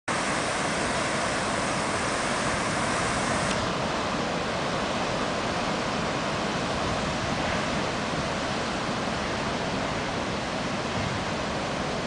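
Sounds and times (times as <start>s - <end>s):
ocean surf breaking on rocks: 0.1s - 12.0s.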